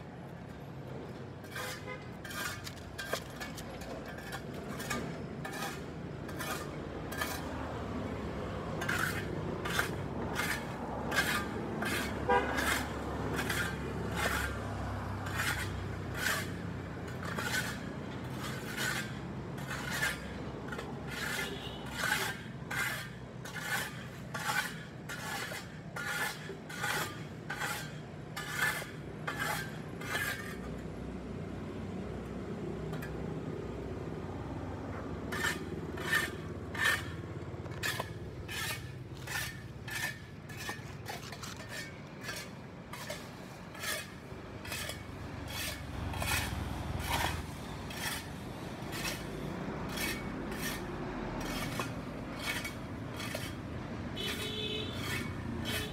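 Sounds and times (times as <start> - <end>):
tool scraping pavement: 0.0 - 55.9.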